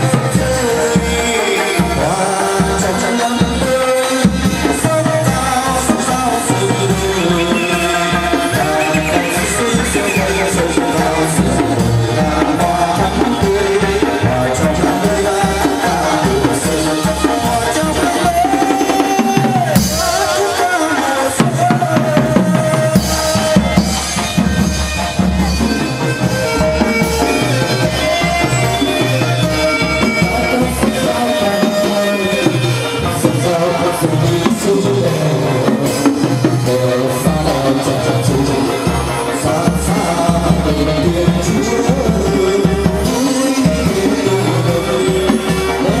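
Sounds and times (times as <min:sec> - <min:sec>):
ritual music with drums: 0:00.0 - 0:46.0
steady drum beat: 0:00.0 - 0:46.0.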